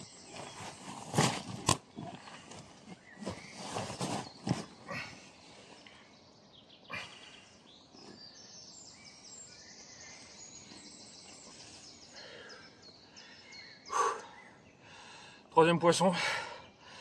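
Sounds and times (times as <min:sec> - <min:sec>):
small bird singing: 0:00.0 - 0:17.0.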